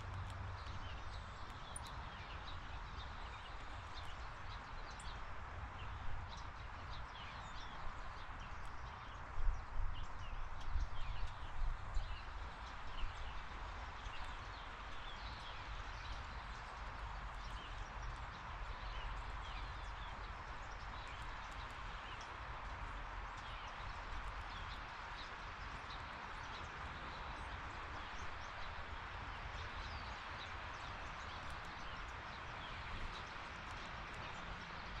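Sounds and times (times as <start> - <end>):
small birds chirping: 0.0 - 35.0
steady outdoor hiss: 0.0 - 35.0.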